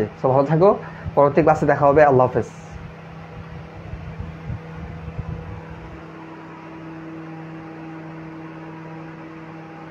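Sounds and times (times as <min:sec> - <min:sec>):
higher steady tone: 0:00.0 - 0:09.9
mechanical room hum: 0:00.0 - 0:09.9.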